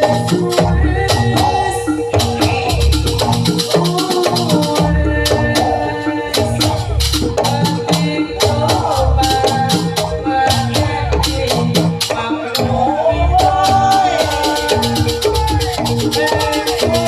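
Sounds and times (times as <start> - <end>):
deep drum beat: 0.0 - 5.8, 6.4 - 17.0
pitched metal percussion notes: 0.0 - 17.0.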